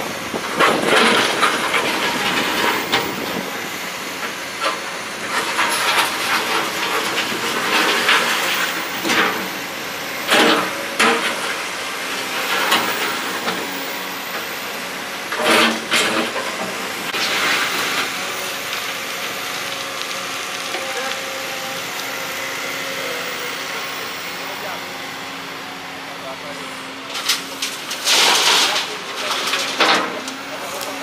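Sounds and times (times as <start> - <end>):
excavator clanks and rattles: 0.0 - 22.2, 26.4 - 31.0.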